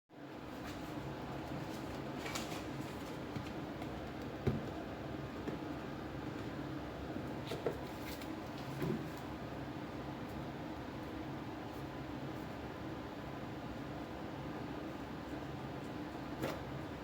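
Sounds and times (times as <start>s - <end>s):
steady low hum: 0.2s - 17.0s.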